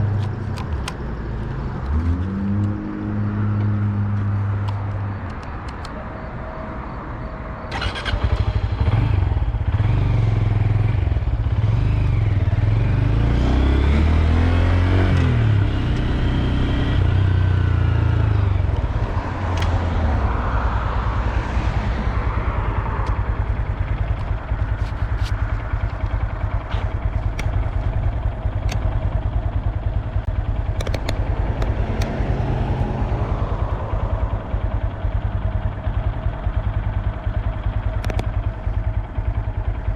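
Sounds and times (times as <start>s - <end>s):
motorcycle engine running: 7.7s - 39.9s.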